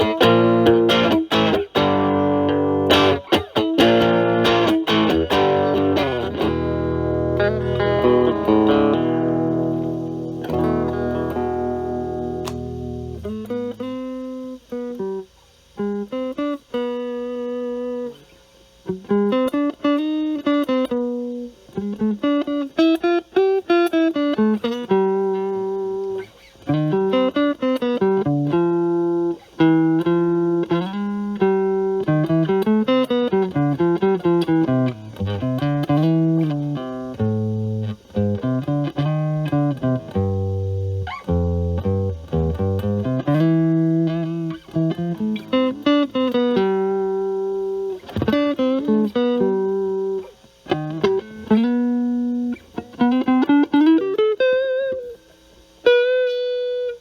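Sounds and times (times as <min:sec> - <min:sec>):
electric guitar chord ringing: 0:00.0 - 0:57.0
electric guitar lead lines: 0:00.0 - 0:57.0.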